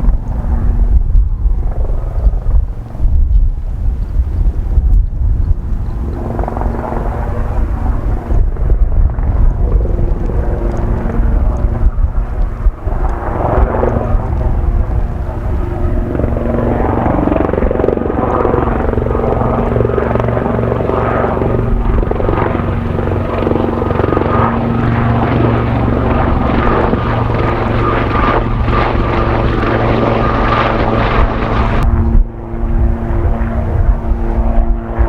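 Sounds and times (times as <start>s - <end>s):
helicopter rotor and turbine: 0.0s - 35.0s
wind rumbling on microphone: 0.0s - 35.0s.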